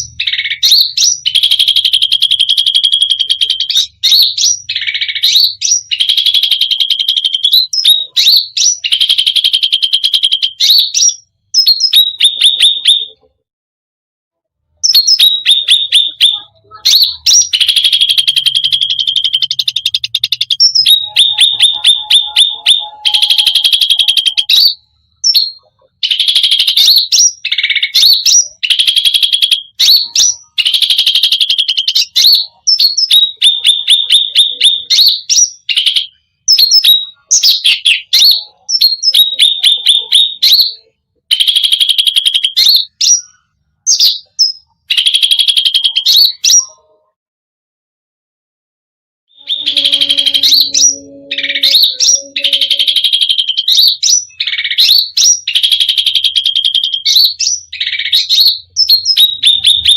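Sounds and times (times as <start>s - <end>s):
songbird singing fast trills: 0.0s - 13.2s, 14.8s - 46.8s, 49.4s - 59.9s.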